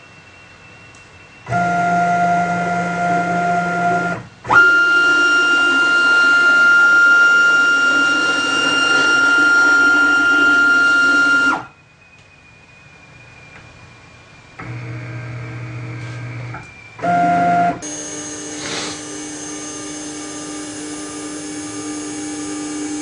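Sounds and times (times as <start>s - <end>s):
stepper motor whining: 0.6s - 23.0s.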